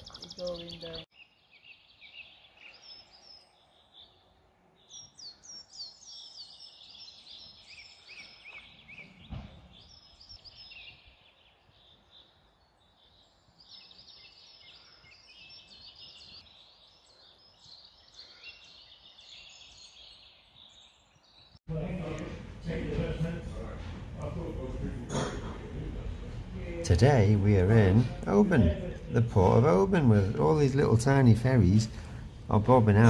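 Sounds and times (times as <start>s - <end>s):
small birds singing: 0.0s - 22.2s, 26.4s - 33.0s.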